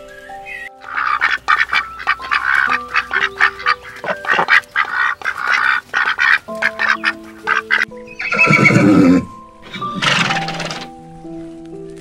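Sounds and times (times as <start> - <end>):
light background music: 0.0 - 12.0
ducks quacking: 0.1 - 10.9.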